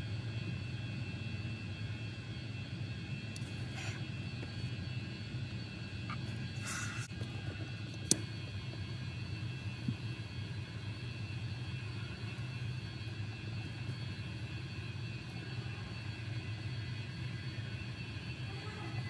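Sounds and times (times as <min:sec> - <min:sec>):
faint whine: 0:00.0 - 0:19.0
low machine hum: 0:00.0 - 0:19.0.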